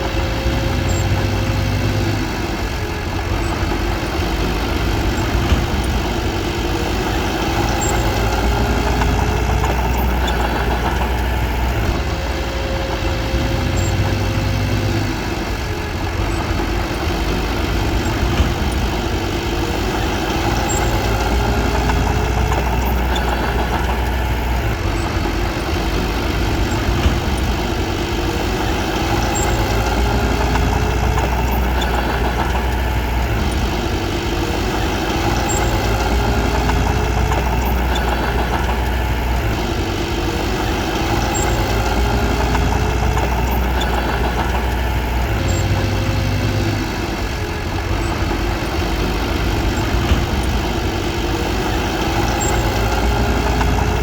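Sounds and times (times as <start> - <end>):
bulldozer diesel engine running: 0.0 - 54.0
sharp clicks: 0.0 - 54.0.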